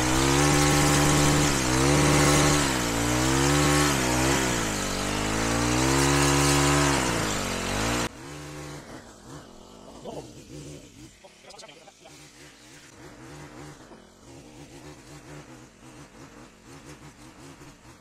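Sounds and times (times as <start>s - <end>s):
hedge trimmer engine revving: 0.0s - 11.3s, 12.0s - 18.0s.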